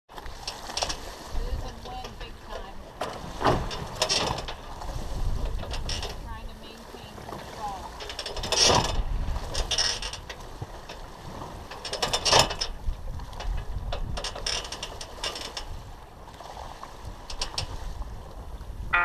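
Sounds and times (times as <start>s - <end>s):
wind and water rushing: 0.1s - 19.0s
fine rattle: 0.3s - 15.9s, 17.1s - 17.8s.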